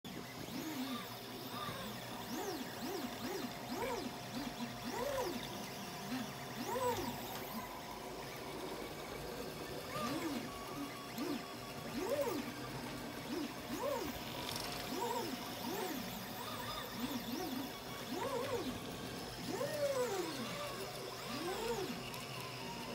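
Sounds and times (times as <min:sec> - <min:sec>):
stepper motors whining: 0:00.1 - 0:22.9.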